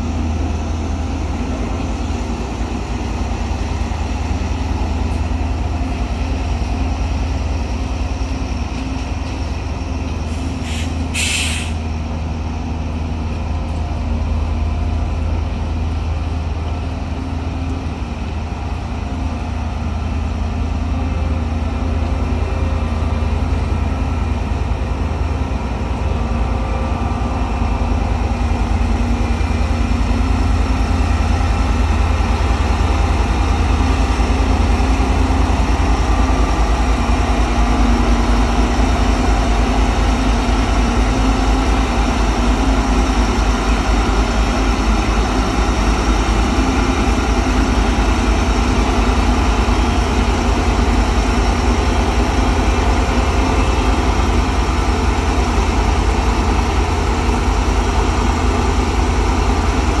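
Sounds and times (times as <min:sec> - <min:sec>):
combine harvester diesel engine droning: 0:00.0 - 1:00.0.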